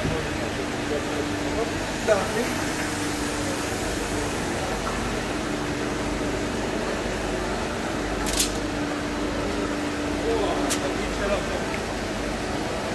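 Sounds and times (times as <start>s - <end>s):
lathe machine hum: 0.0s - 12.9s.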